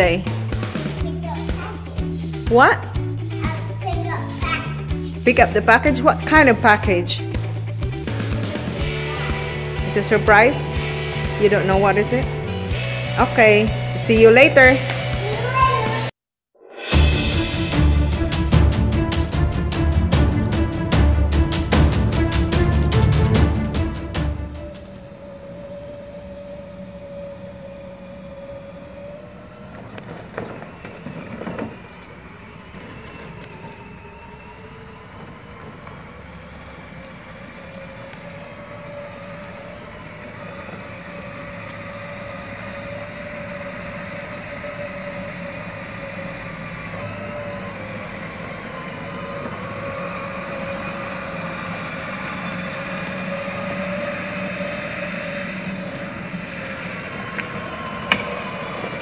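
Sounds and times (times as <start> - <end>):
car engine and road hum: 0.0 - 16.1, 17.5 - 31.5, 32.6 - 59.0.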